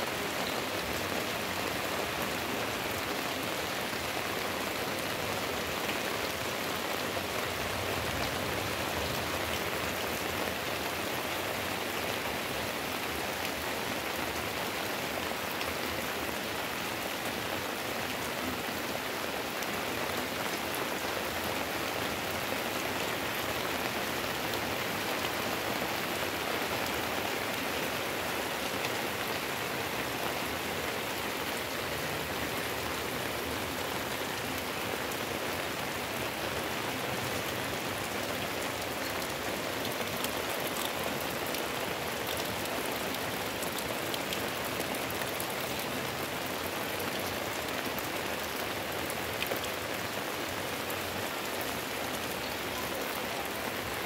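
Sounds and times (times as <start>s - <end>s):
heavy rain on leaves and roof: 0.0s - 54.0s.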